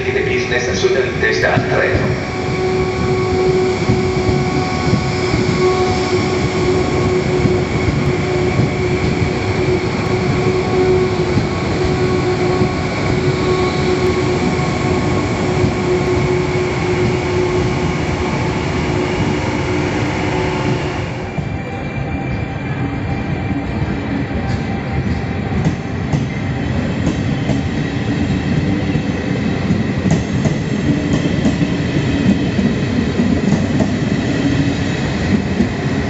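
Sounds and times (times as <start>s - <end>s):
loud rail rumble: 0.0s - 36.0s.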